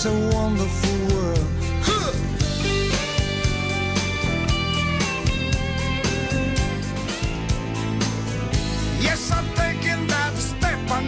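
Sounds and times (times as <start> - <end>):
guitar song with drum beat: 0.0 - 11.0.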